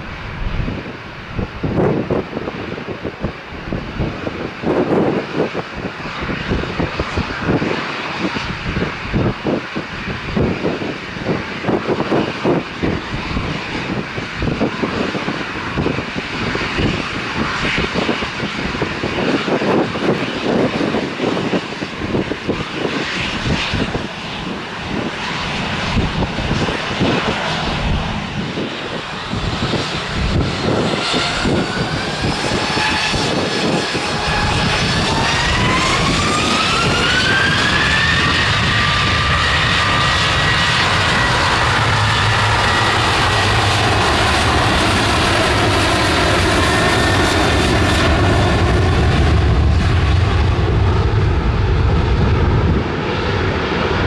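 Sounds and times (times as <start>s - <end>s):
jet engines roaring: 0.0s - 54.0s
rising engine whine: 0.0s - 54.0s.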